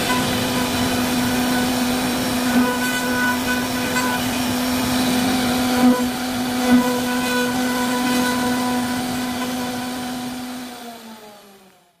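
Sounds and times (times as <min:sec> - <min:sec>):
router spindle motor hum: 0:00.0 - 0:12.0.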